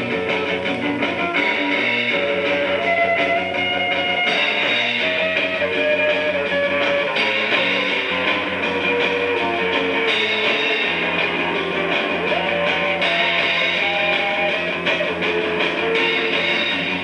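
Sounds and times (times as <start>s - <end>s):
bass: 0.0s - 17.0s
punk rock through a loudspeaker: 0.0s - 17.0s
strummed electric guitar: 0.0s - 17.0s.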